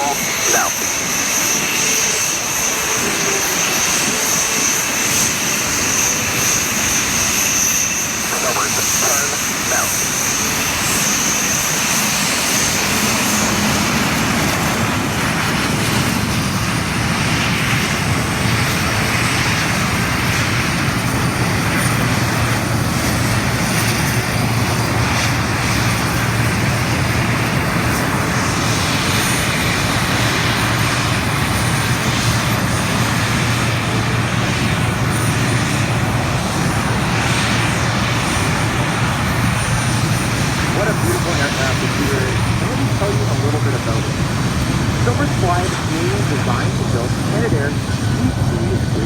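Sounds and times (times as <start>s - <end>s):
high jet whine: 0.0s - 49.0s
jet engines roaring: 0.0s - 49.0s.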